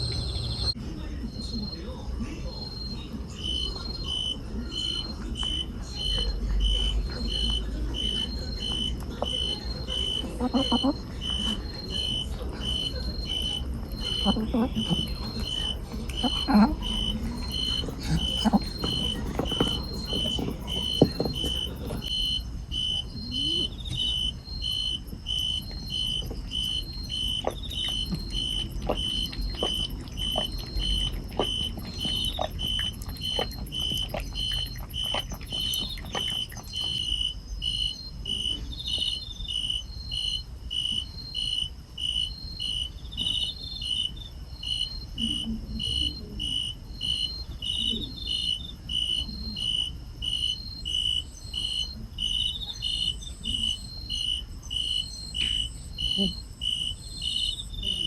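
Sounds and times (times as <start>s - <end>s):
insect chirping: 2.5s - 58.0s.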